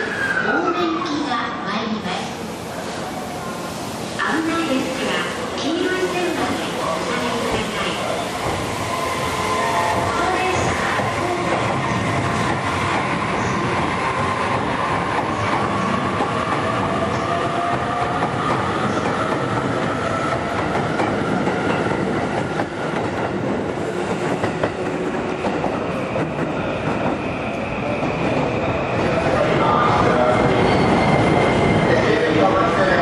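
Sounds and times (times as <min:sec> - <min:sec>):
electric train rumbling past: 0:00.0 - 0:33.0.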